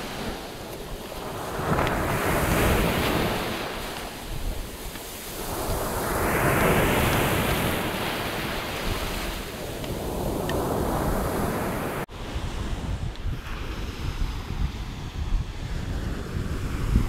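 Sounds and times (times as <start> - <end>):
surf washing on sand: 0.0 - 17.0
wind buffeting microphone: 0.0 - 17.0.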